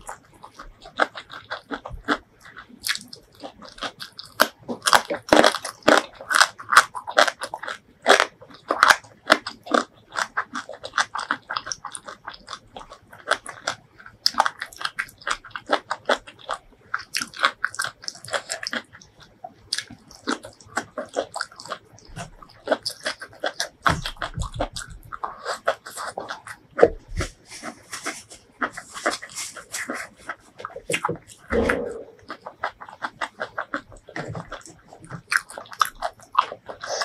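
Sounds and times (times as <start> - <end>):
crisp crunching of food: 0.0 - 37.0
wet chewing: 0.0 - 37.0.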